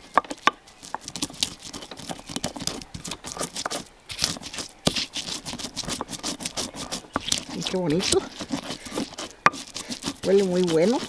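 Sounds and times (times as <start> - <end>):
stone pestle grinding in stone bowl: 0.2 - 11.0.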